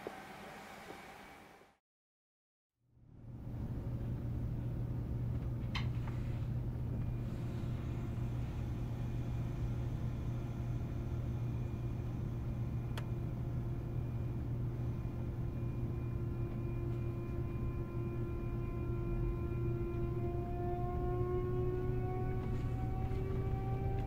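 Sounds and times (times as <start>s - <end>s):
train inverter hum and tones: 0.0s - 1.8s, 2.9s - 24.0s.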